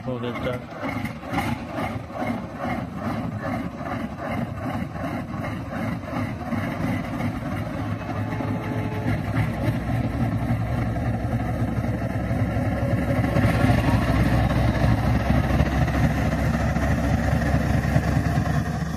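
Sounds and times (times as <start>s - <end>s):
diesel locomotive engine pulsing: 0.0s - 18.9s.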